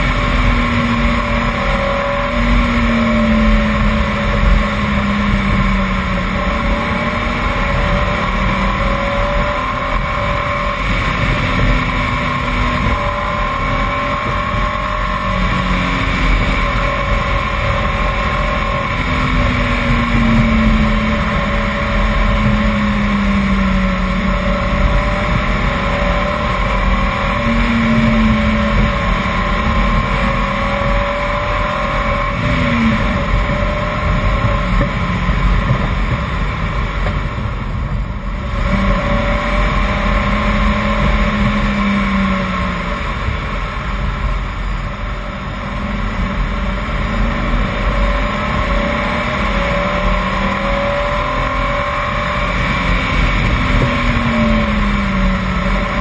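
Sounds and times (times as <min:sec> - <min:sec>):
car engine accelerating: 0:00.0 - 0:56.0
tyre and wind noise: 0:00.0 - 0:56.0.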